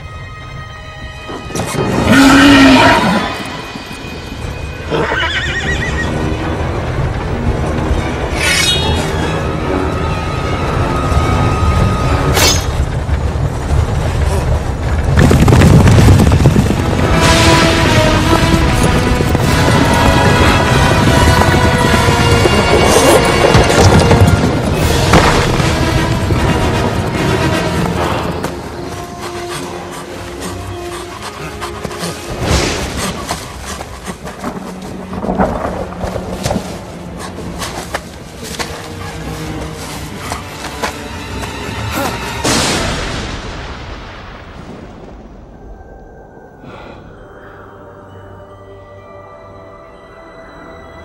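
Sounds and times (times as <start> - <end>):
dramatic film music: 0.0 - 51.0.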